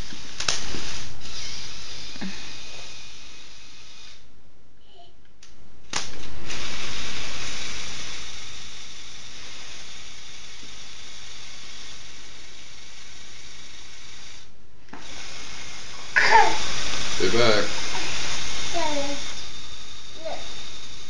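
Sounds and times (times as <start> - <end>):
small electric motors whirring: 0.0 - 4.3, 6.0 - 21.0.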